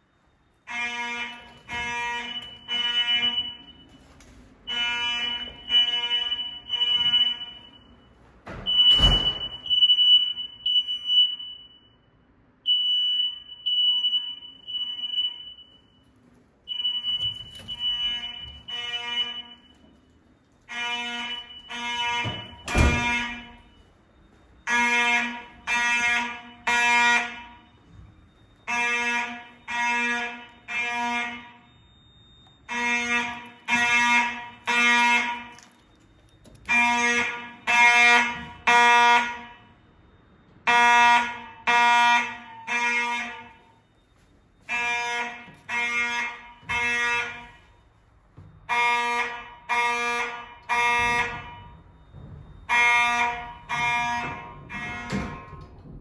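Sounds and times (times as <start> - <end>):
fire alarm horn blasts: 0.0 - 56.0.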